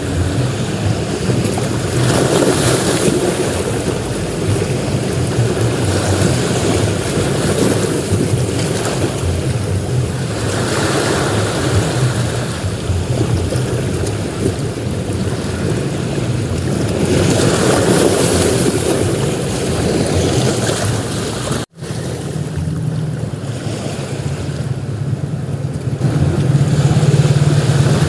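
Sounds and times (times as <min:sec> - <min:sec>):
waves breaking on beach: 0:00.0 - 0:28.0.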